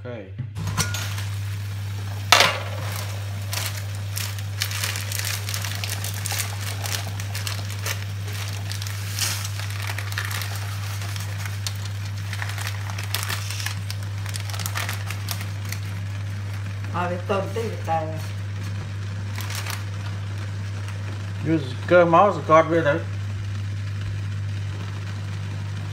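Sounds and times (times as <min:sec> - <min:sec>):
steady low hum: 0:00.0 - 0:25.9
water boiling in a pot: 0:00.6 - 0:25.9.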